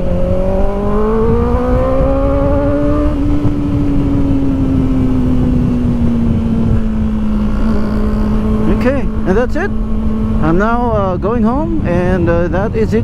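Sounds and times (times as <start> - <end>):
motorcycle engine accelerating: 0.0 - 12.7.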